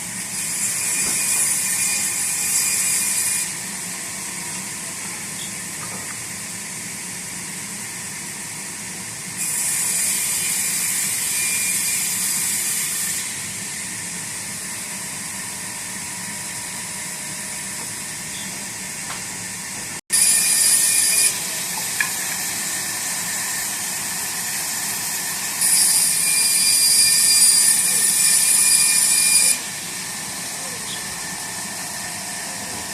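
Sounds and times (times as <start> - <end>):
saw whining through wood: 0.0 - 32.9
sawmill machinery running: 0.0 - 32.9.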